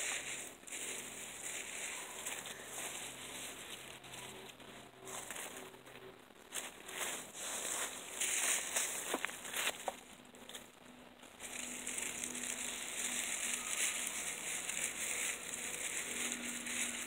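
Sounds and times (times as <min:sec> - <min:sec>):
dry leaves crunching: 0:00.0 - 0:17.0.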